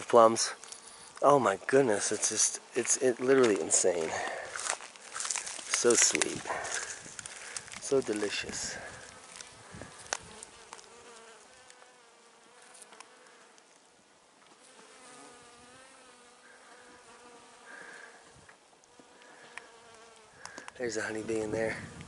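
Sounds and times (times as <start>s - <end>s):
bees buzzing: 0.0s - 13.6s, 14.6s - 22.0s.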